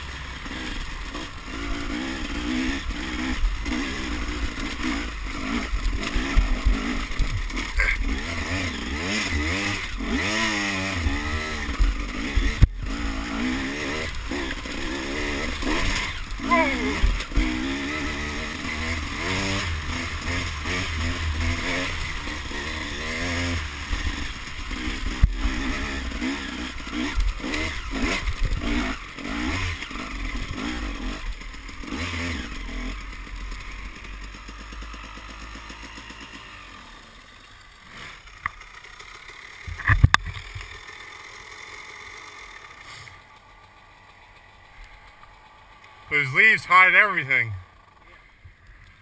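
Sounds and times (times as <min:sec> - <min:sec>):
dirt bike engine revving: 0:00.0 - 0:48.3.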